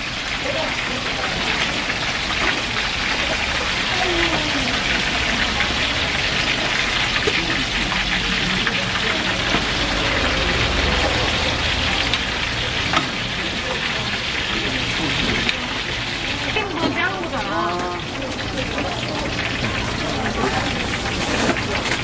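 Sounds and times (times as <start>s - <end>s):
hot oil sizzling and crackling: 0.0s - 22.0s.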